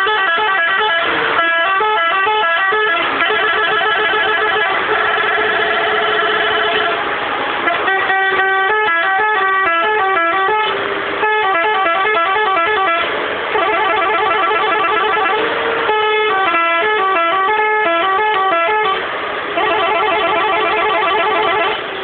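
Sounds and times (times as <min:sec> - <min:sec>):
multi-tone truck horn melodies: 0:00.0 - 0:22.0.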